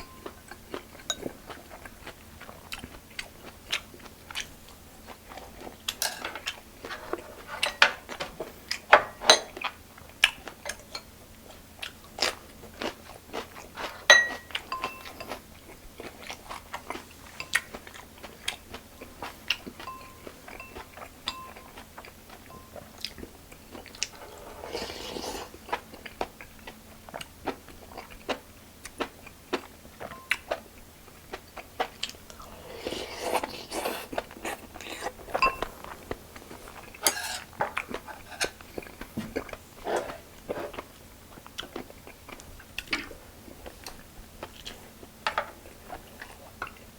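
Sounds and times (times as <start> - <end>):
person chewing and crunching food: 0.0 - 8.9, 11.4 - 46.9.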